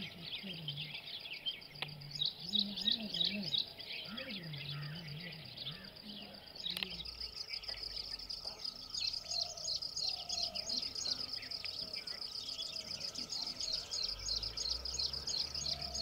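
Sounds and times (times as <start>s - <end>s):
birds chirping: 0.0s - 16.0s
lower longer bird calls: 0.0s - 16.0s.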